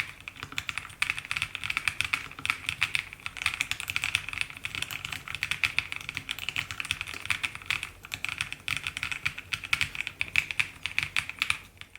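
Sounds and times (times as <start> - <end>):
mechanical keyboard typing: 0.0 - 11.9.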